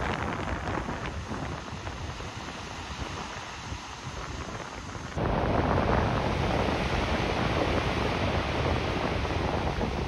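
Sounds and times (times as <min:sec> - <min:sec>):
surf breaking on the shore: 0:00.0 - 0:10.0
wind buffeting the microphone: 0:00.0 - 0:10.0.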